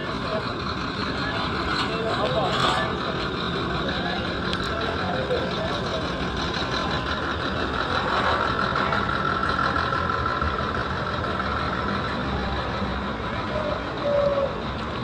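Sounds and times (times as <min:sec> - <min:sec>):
traffic and engine noise: 0:00.0 - 0:15.0.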